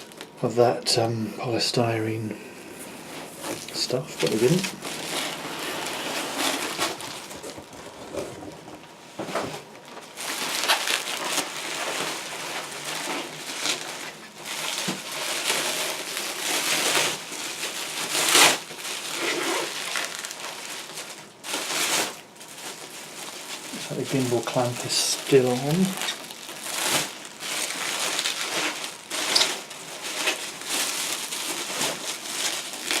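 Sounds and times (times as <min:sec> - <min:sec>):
packing material crinkling: 0:00.0 - 0:00.5, 0:02.9 - 0:09.0, 0:09.6 - 0:33.0.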